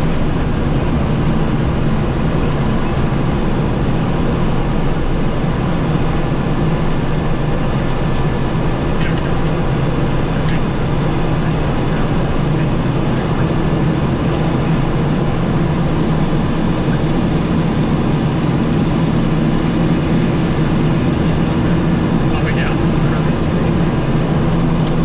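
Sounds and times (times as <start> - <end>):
turboprop engines humming: 0.0 - 25.0.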